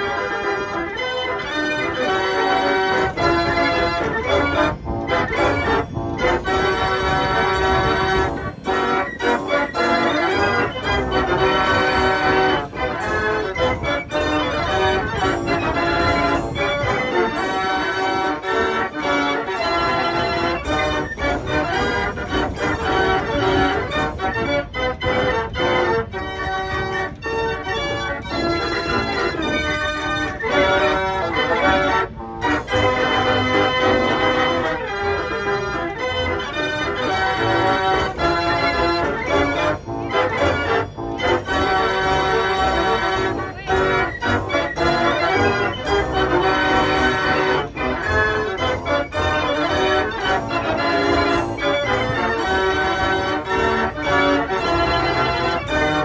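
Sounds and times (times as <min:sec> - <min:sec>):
fairground organ playing a tune: 0:00.0 - 0:56.0.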